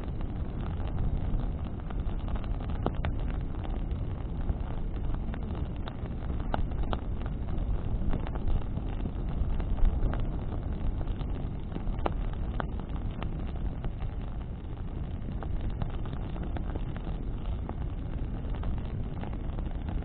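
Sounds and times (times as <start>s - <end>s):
burning wood crackling: 0.0s - 20.0s
rumble of flames and wind: 0.0s - 20.0s.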